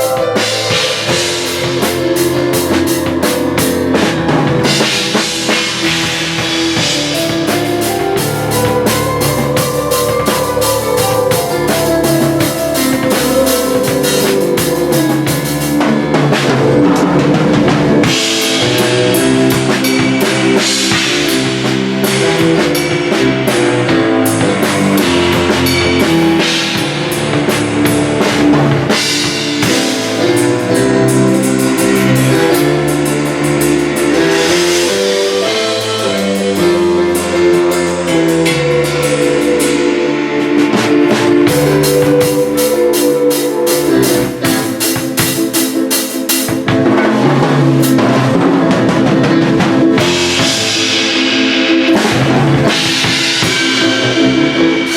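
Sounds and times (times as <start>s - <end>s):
bass line: 0.0s - 54.9s
drum kit with cymbals: 0.0s - 54.9s
keyboard playing chords: 0.0s - 54.9s.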